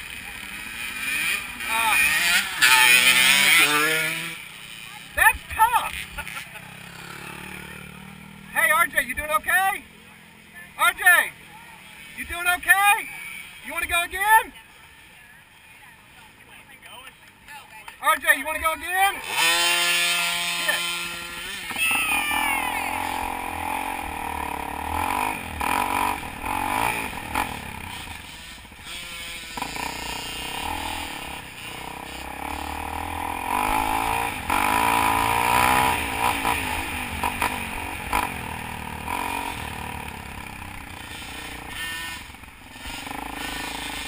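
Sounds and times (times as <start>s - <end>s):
dirt bike engine revving: 0.0s - 9.9s, 10.6s - 14.3s, 18.2s - 44.0s.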